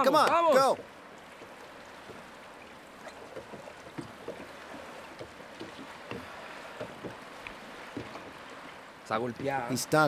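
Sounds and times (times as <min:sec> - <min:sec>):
little splashes: 0:00.0 - 0:10.0
waves lapping against boat hull: 0:00.0 - 0:10.0.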